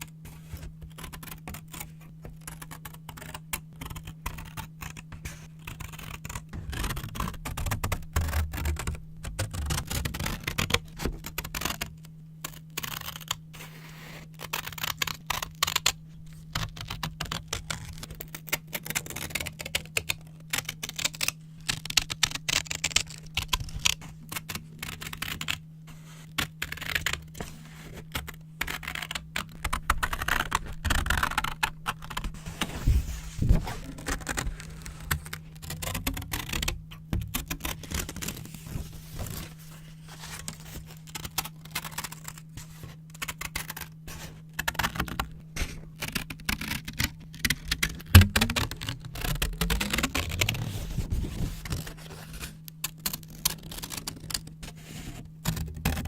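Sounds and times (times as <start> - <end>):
scissors cutting paper: 0.4 - 11.9, 14.4 - 56.0.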